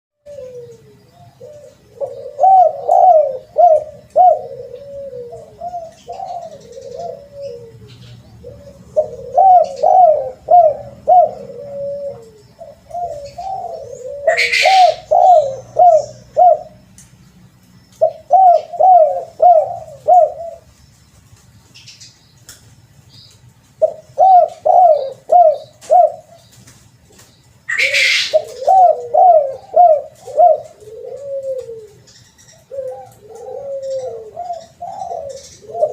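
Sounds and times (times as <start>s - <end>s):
dove cooing: 0.2s - 17.0s, 18.0s - 20.7s, 23.8s - 26.4s, 27.7s - 35.9s.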